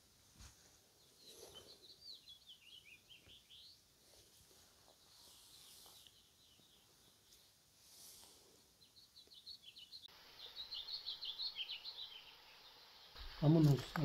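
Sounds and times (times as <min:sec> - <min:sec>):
small bird chirping: 0:00.9 - 0:14.0.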